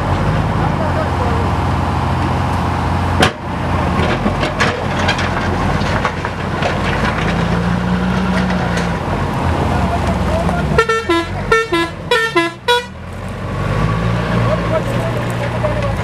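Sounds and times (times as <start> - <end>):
backhoe diesel engine under load: 0.0 - 16.0.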